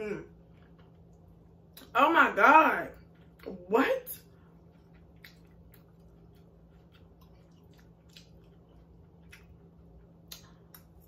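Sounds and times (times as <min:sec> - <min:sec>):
chewing and mouth sounds: 0:00.3 - 0:01.9, 0:02.9 - 0:11.0.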